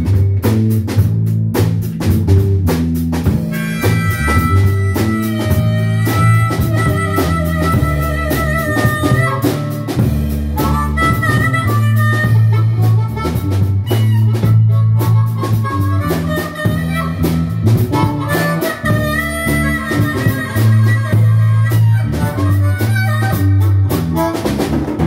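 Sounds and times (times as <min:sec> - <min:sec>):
drum kit: 0:00.0 - 0:25.0
low bass line: 0:00.0 - 0:25.0
blues harmonica wailing: 0:03.2 - 0:25.0.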